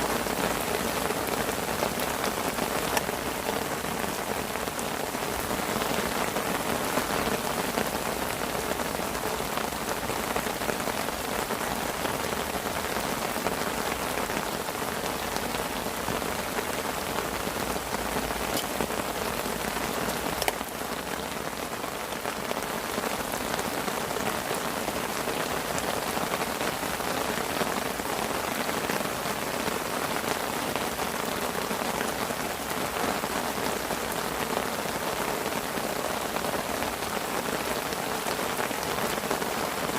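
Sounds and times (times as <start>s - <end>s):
rain on a parasol canopy: 0.0s - 39.9s.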